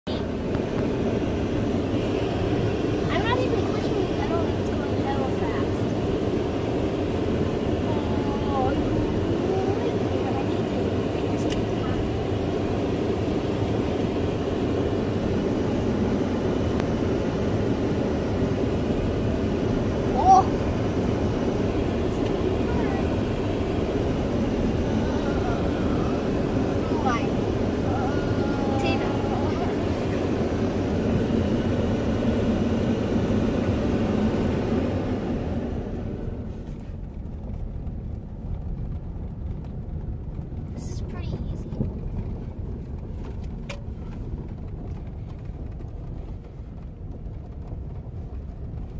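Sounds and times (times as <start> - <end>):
truck engine rumbling: 0.0 - 48.9.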